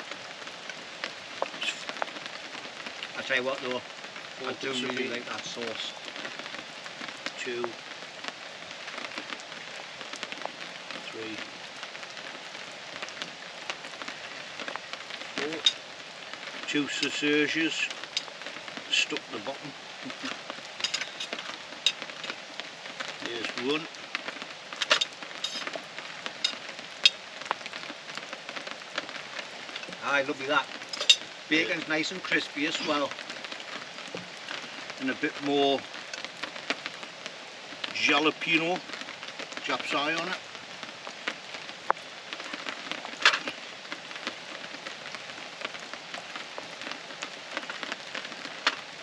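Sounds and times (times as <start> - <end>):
rain pattering: 0.0 - 49.0.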